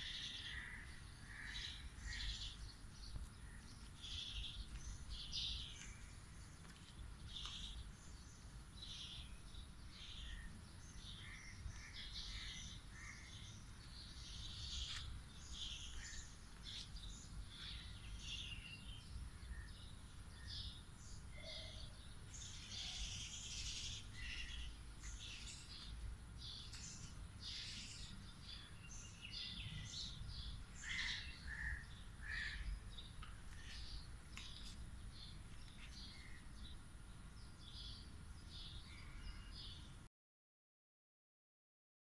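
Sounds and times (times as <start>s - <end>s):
birds chirping and calling: 0.0s - 40.0s.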